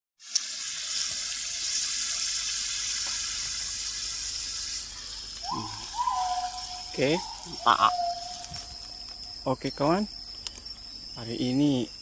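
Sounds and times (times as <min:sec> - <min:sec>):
high-pitched hiss: 0:00.2 - 0:12.0.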